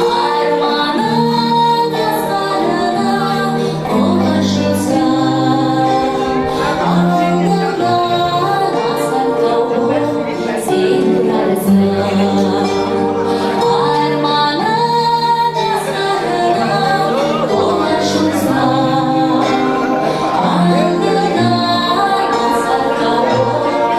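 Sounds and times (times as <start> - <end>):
instrumental accompaniment: 0.0 - 23.9
woman singing: 0.0 - 23.9.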